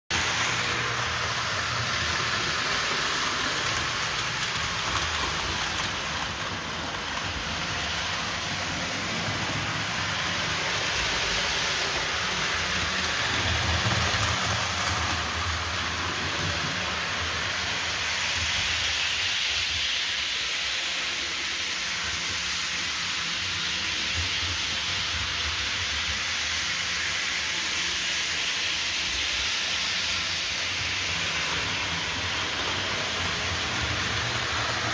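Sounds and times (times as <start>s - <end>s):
model train wheels and motors hissing: 0.1s - 34.9s.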